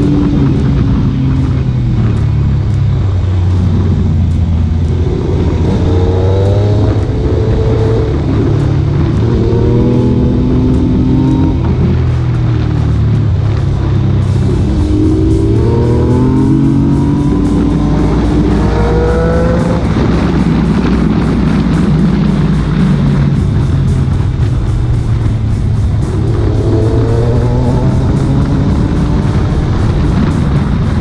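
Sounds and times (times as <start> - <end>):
background music with steady beat: 0.0 - 31.0
motorcycle engines accelerating: 0.0 - 31.0.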